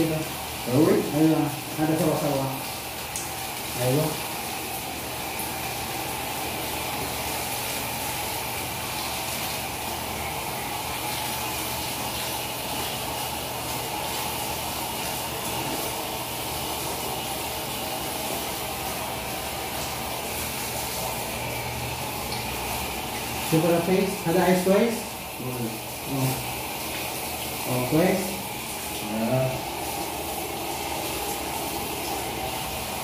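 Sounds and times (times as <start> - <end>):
shower water spraying: 0.0 - 33.0.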